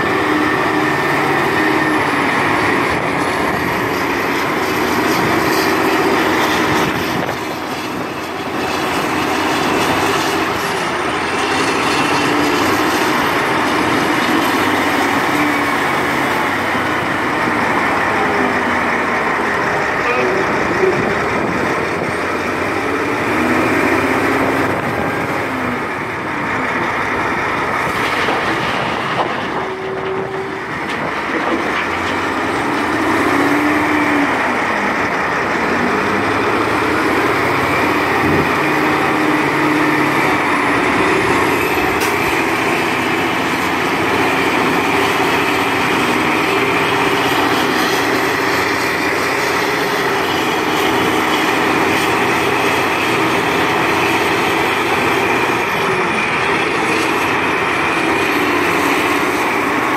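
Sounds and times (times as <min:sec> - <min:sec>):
heavy diesel engines: 0:00.0 - 0:59.9.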